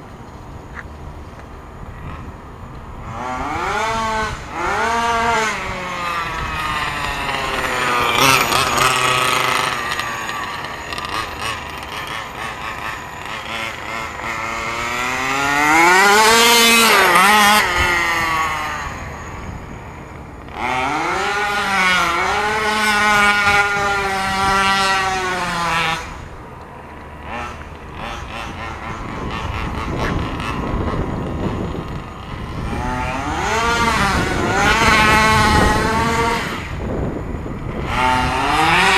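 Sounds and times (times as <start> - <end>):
small two-stroke engine revving: 0.0 - 38.9.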